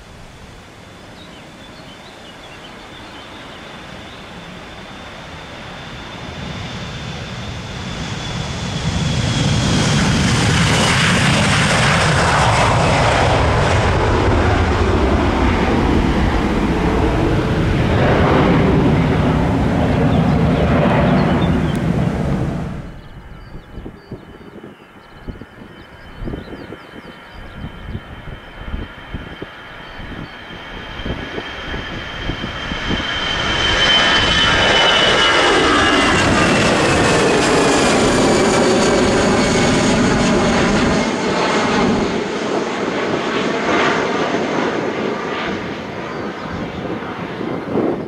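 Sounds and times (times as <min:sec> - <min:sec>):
high jet whine: 0:00.0 - 0:48.0
jet airliner engine rumble: 0:00.0 - 0:48.0.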